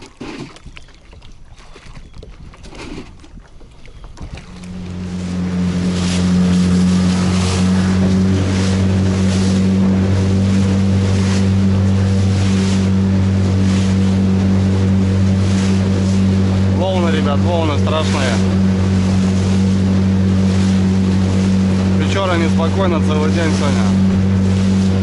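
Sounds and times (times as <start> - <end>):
hull splashing on waves: 0.0 - 25.0
outboard motor running: 0.0 - 25.0.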